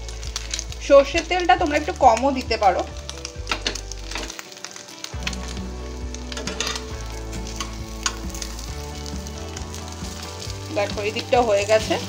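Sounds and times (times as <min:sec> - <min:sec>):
bread sizzling in a pan: 0:00.0 - 0:12.0.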